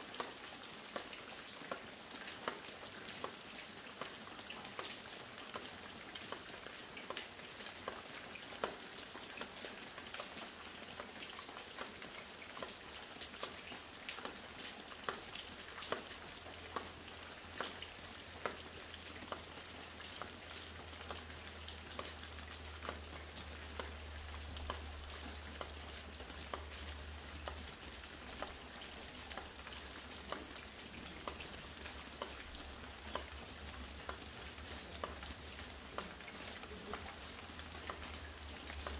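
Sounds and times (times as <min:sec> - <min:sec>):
light rain falling: 0:00.0 - 0:38.9
water dripping from a roof: 0:00.0 - 0:38.9.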